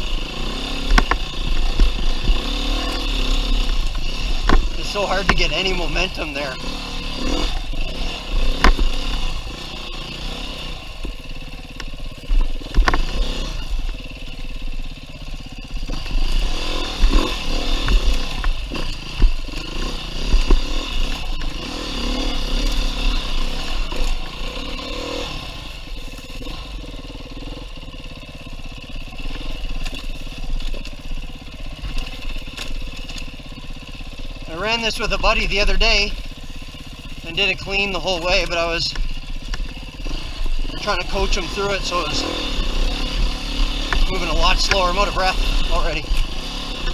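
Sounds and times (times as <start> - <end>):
knocks and scrapes from bike: 0.0 - 9.7, 10.3 - 14.3, 15.6 - 26.8, 28.8 - 35.7, 36.4 - 46.9
dirt bike engine revving: 0.0 - 46.9.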